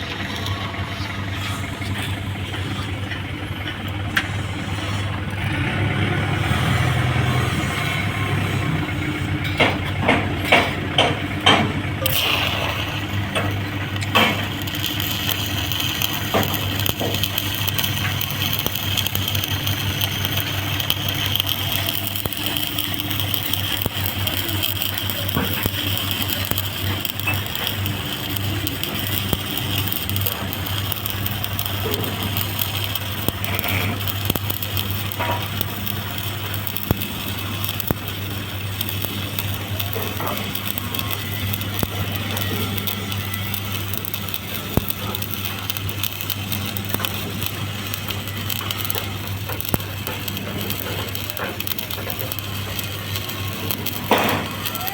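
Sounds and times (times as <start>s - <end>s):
welding arc crackling and hissing: 0.0s - 54.9s
welding machine low hum: 0.0s - 54.9s
sharp clicks: 9.4s - 54.9s.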